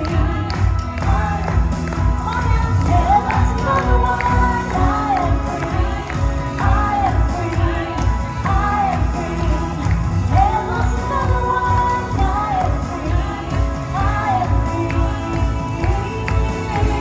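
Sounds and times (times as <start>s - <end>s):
praise band music with pulsing beat: 0.0s - 17.0s.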